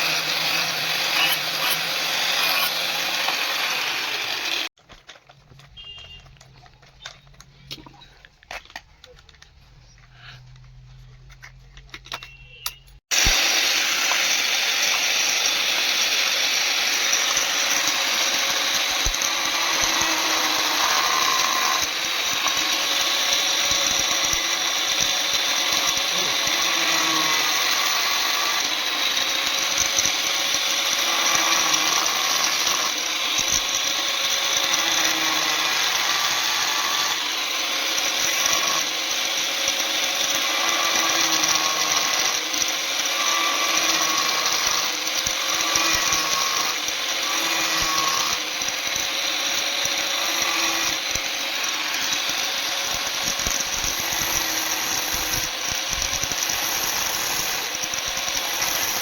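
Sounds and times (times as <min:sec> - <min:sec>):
power tool running on metal: 0:00.0 - 0:04.8, 0:13.1 - 0:59.0.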